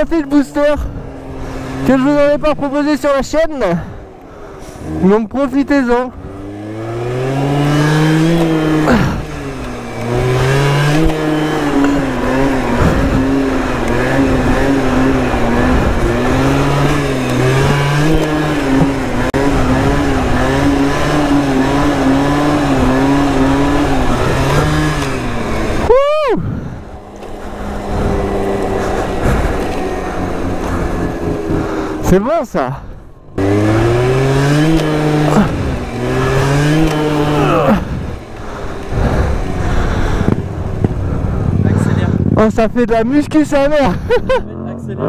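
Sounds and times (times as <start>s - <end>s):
scooter engine running: 0.0s - 45.0s.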